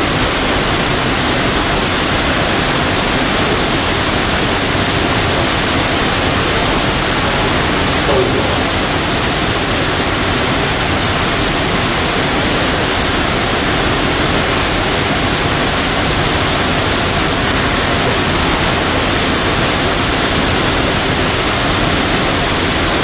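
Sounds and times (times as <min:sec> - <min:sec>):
loud steady hiss: 0:00.0 - 0:23.0.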